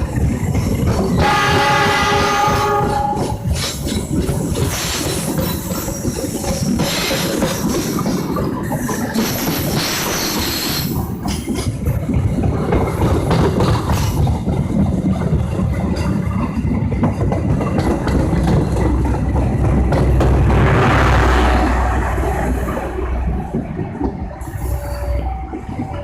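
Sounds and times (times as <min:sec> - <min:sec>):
train wheels clattering on rails: 0:00.0 - 0:26.0.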